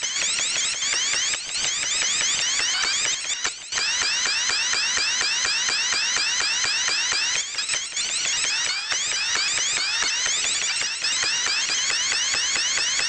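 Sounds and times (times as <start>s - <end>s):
electronic alarm chirping: 0.0s - 13.0s.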